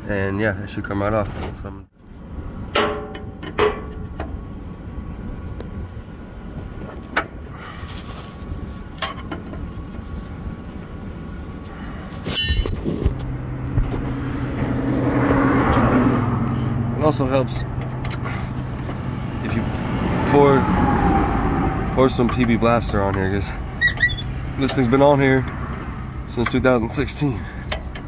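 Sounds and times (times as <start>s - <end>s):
vehicle engine drone: 1.6s - 28.0s.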